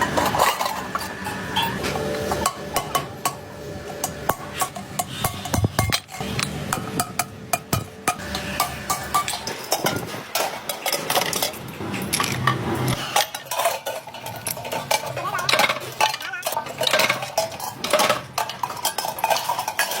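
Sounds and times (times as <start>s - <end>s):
metal clinking and scraping: 0.0s - 20.0s.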